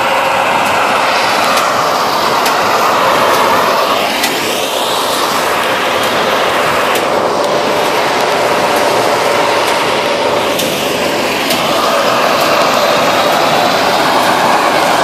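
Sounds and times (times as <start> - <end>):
tractor and baler drone: 0.0 - 15.0.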